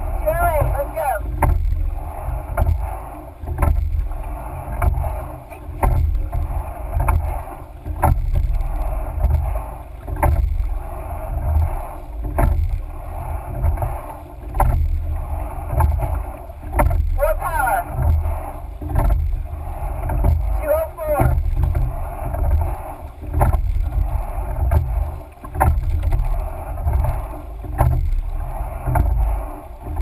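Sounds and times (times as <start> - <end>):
oars knocking in oarlocks: 0.0 - 10.8, 11.4 - 12.9, 13.5 - 30.0
low rumble: 0.0 - 30.0
water rushing along hull: 0.0 - 30.0.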